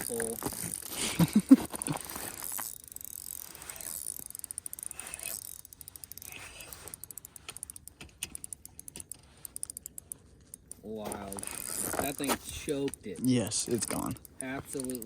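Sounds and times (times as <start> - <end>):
fishing reel ratchet clicking: 0.0 - 15.0.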